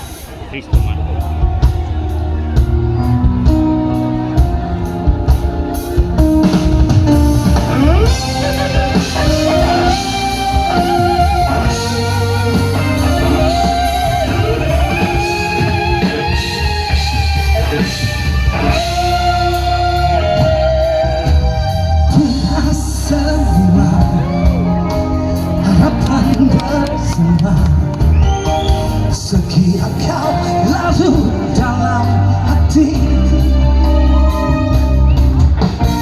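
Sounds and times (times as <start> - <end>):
bass and drums: 0.0 - 36.0
lead guitar melody: 0.7 - 36.0.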